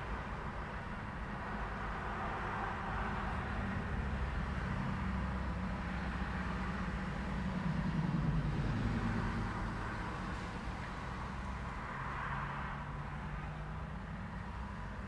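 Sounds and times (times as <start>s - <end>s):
cars passing: 0.0s - 15.0s
vehicle engine rumble: 0.0s - 15.0s.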